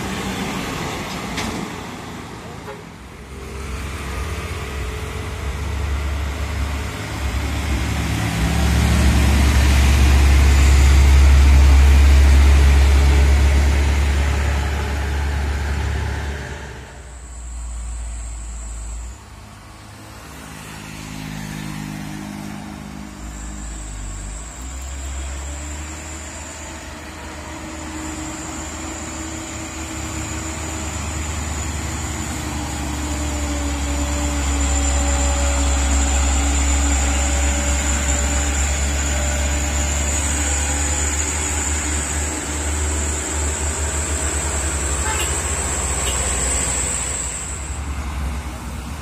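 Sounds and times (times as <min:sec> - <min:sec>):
diesel trucks labouring uphill: 0:00.0 - 0:49.0
thin high whine: 0:03.4 - 0:48.1.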